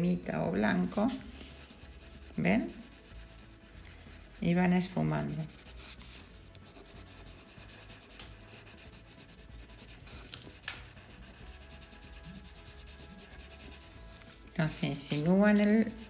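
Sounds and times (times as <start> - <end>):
pencil scratching on paper: 0.7 - 16.0.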